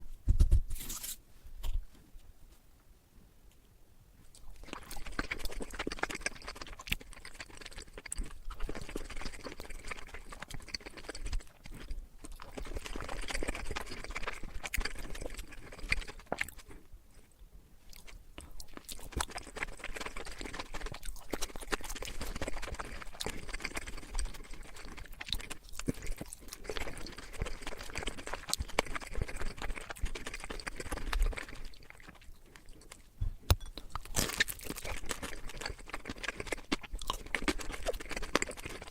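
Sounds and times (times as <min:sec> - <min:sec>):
crunchy chewing: 0:04.2 - 0:38.9.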